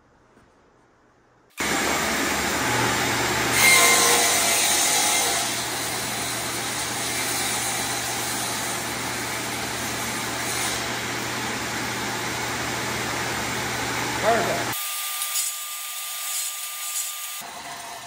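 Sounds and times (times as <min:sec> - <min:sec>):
table saw cutting plywood: 0:01.5 - 0:13.2, 0:13.8 - 0:18.0.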